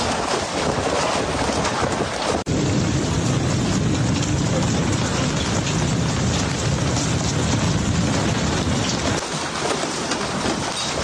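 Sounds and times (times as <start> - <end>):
hailstones clattering: 0.0 - 11.0
heavy rain rushing: 0.0 - 11.0.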